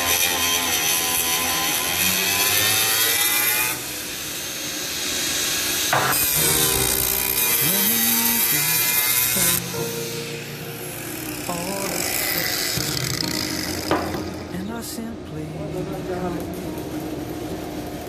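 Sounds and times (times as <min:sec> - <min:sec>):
welding arc crackling: 0:00.0 - 0:18.0.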